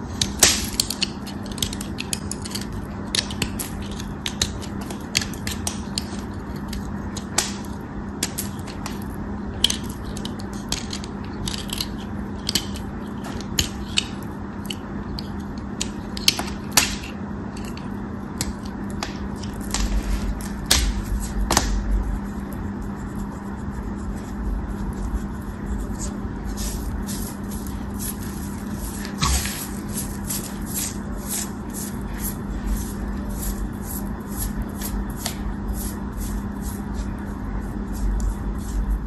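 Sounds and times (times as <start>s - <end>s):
knife carving crackling soap: 0.1s - 36.8s.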